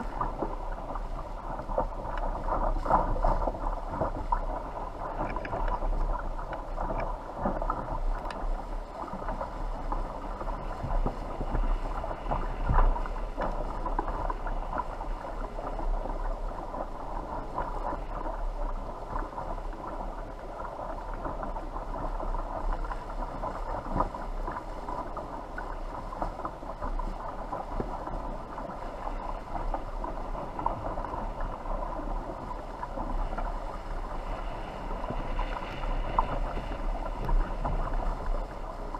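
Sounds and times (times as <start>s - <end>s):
wind and water rushing: 0.0s - 38.9s.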